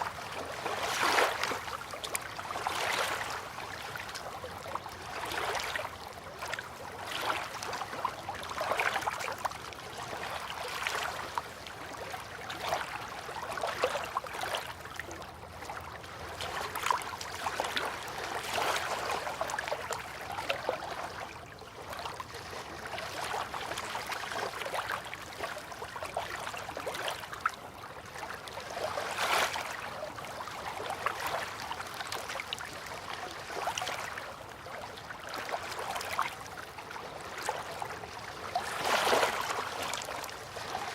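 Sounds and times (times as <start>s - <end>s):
small water splashes: 0.0s - 40.9s
water lapping and trickling: 0.0s - 40.9s.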